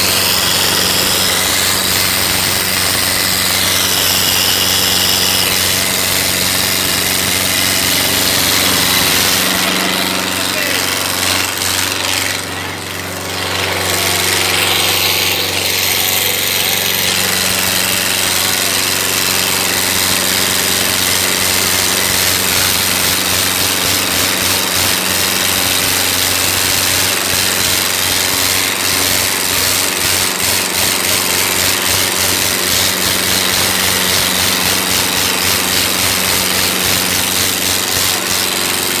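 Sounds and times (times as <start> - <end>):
tractor diesel engine under load: 5.6 - 39.0.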